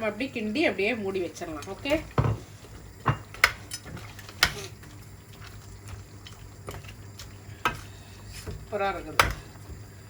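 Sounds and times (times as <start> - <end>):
spoon stirring in pot: 1.4 - 10.0.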